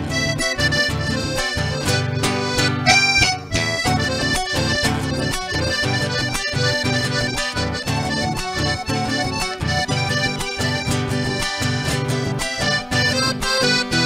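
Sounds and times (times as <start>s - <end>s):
accordion melody: 0.0s - 14.0s
acoustic guitar: 0.0s - 14.0s.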